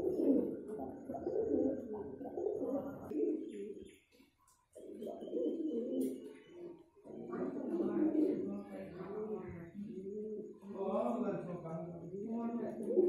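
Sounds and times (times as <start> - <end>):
pigeons cooing: 0.0 - 10.8, 12.0 - 13.0.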